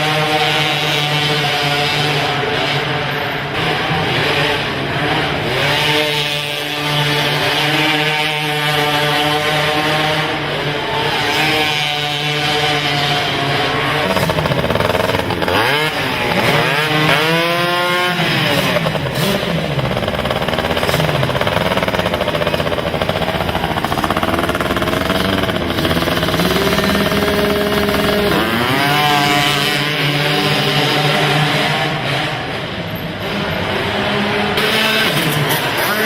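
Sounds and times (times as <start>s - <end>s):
quad engines revving: 0.0s - 36.0s.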